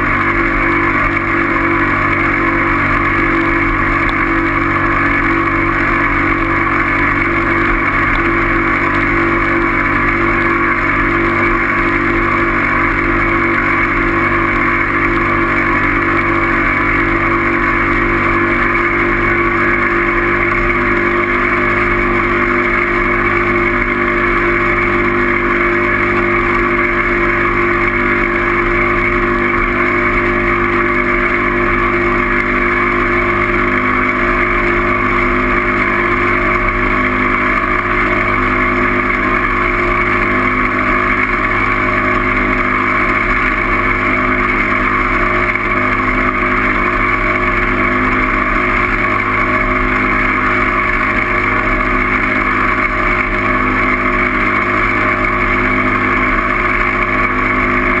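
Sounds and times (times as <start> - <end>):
vehicle engine drone: 0.0 - 58.0.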